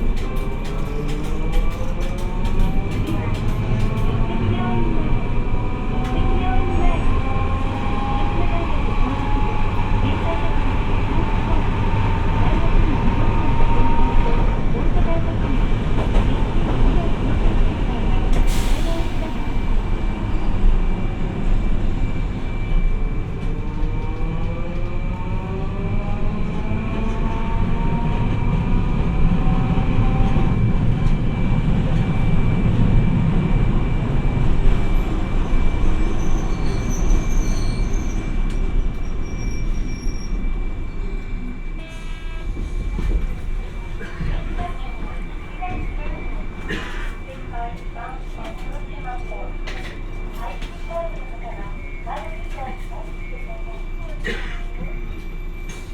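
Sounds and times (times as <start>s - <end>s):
tram motor whine: 0.0s - 55.9s
tram wheels rumbling on track: 0.0s - 55.9s.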